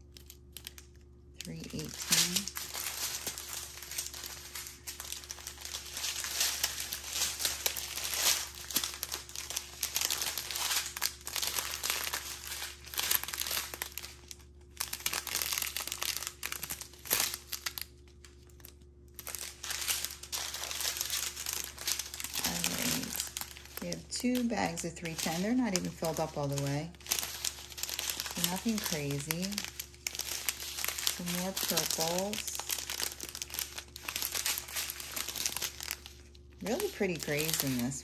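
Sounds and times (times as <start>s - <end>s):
plastic bags crinkling: 0.0s - 38.0s.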